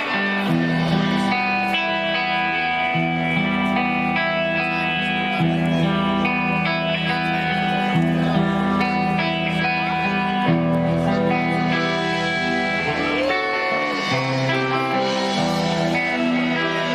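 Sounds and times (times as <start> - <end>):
live band with guitar: 0.0 - 16.9.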